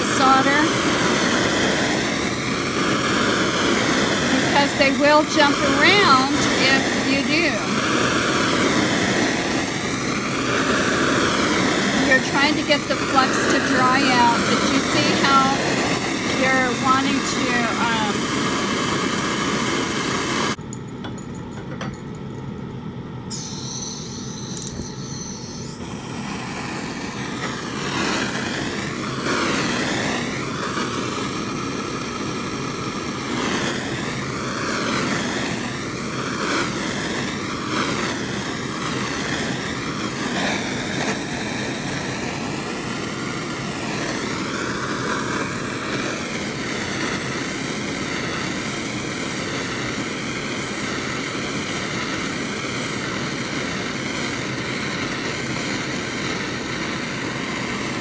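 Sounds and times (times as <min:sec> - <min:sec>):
torch flame hissing: 0:00.0 - 0:20.6, 0:23.3 - 0:58.0
ventilation fan running: 0:00.0 - 0:58.0.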